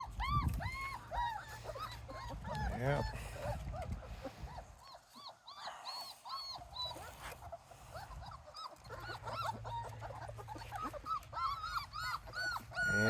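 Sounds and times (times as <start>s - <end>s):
puppies whining: 0.0s - 13.0s.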